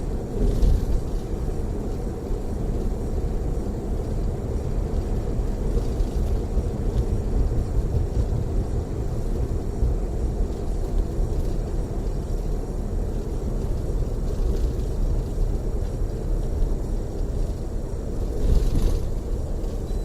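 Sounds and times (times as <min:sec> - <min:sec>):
coach engine and tyre noise: 0:00.0 - 0:20.0.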